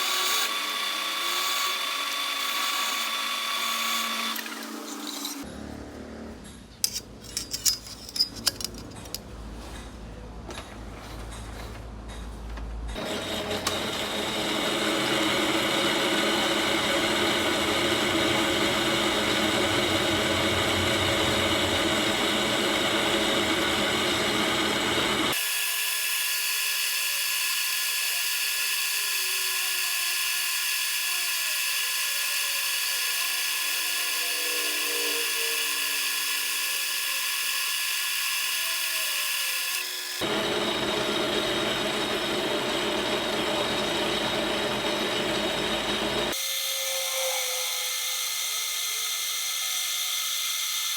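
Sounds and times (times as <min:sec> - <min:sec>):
metal lathe whining: 0:00.0 - 0:05.4, 0:13.0 - 0:50.9.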